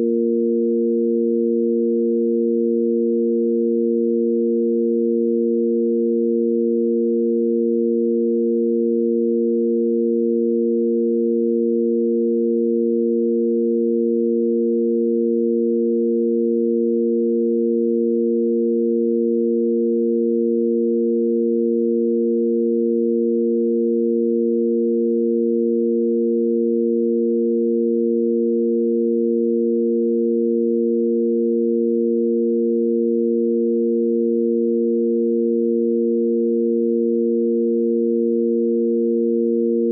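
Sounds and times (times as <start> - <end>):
electronic sine-wave drone: 0.0 - 39.9.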